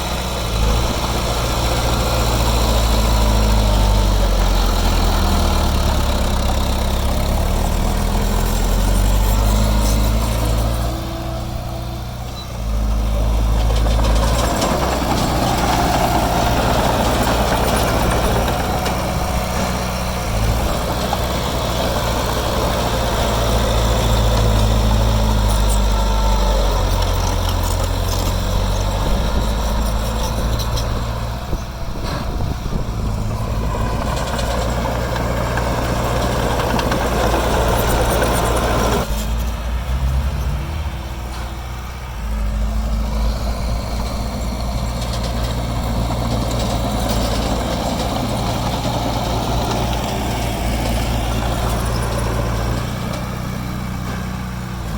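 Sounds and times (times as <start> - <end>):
heavy diesel engine: 0.0 - 54.9.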